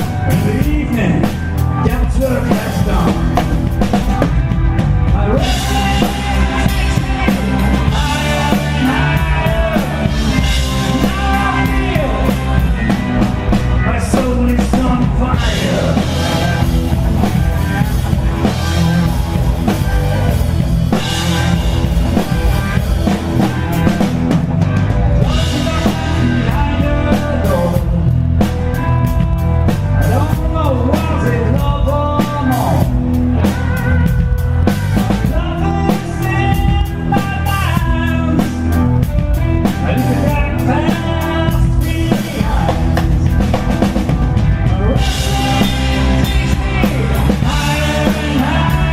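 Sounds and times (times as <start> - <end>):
person singing lead vocal: 0.0 - 29.3, 30.0 - 48.9
blues-rock band playing live: 0.0 - 48.9
drum kit: 0.0 - 48.9
guitar: 0.0 - 48.9.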